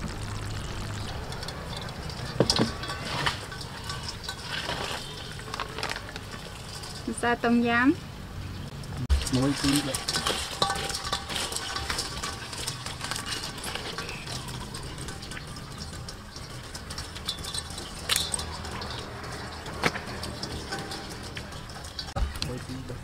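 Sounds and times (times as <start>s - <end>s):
crab shells cracking: 0.0s - 7.0s, 9.9s - 22.2s
pieces rattling in metal bowl: 0.2s - 7.7s, 9.1s - 23.0s.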